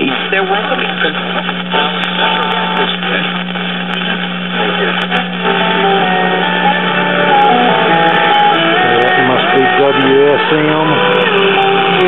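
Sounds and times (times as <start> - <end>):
broadcast voices on radio: 0.0 - 7.9, 8.6 - 12.0
radio music: 0.0 - 12.0
radio static hiss: 0.0 - 12.0.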